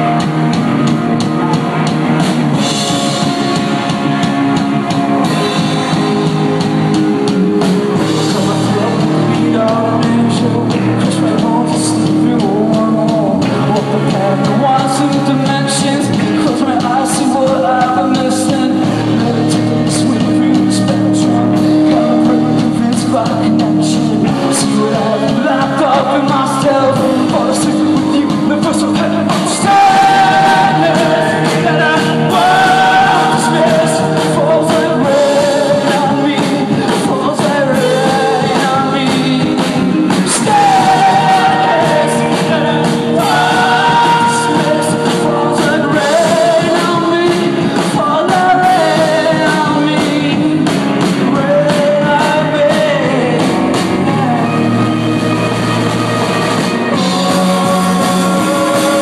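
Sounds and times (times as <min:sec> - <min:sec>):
lead singer singing: 0:00.0 - 0:59.0
live rock band: 0:00.0 - 0:59.0.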